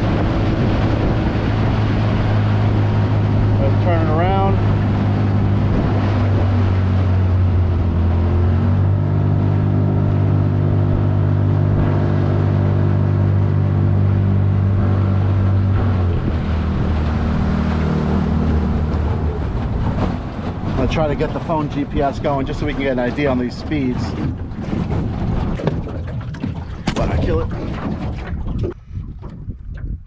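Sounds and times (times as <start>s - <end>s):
outboard motor running: 0.0s - 30.0s
water noise: 0.0s - 30.0s
wind: 0.0s - 30.0s.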